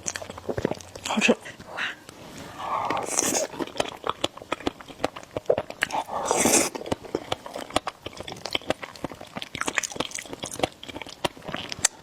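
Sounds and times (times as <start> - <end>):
wet chewing and mouth smacks: 0.0 - 2.2, 2.8 - 12.0
noodle slurp: 2.4 - 12.0.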